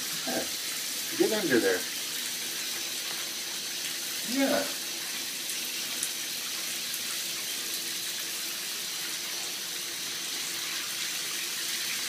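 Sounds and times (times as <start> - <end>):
water running into bathtub: 0.0 - 12.0.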